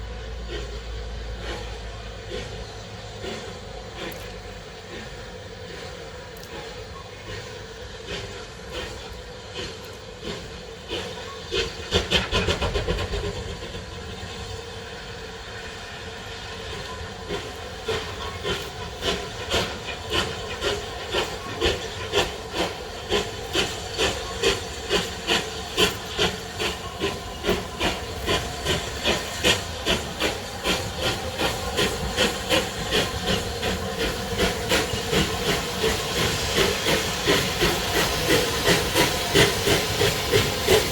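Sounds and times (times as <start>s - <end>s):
steam hissing: 0.0s - 40.9s
steam locomotive exhaust beats: 0.0s - 40.9s.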